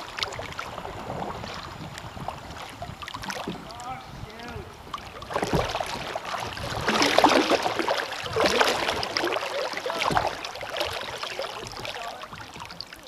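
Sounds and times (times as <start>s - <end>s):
paddle splashing in water: 0.0s - 13.0s
water gurgling around hull: 0.0s - 13.0s.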